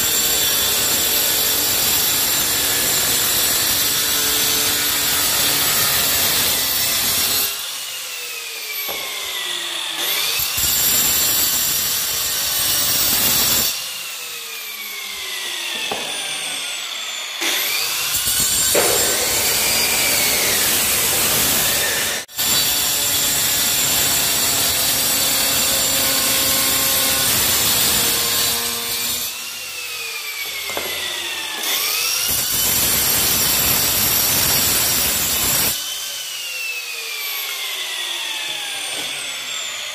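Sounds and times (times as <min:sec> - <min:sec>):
angle grinder cutting tile: 0:00.0 - 0:39.9.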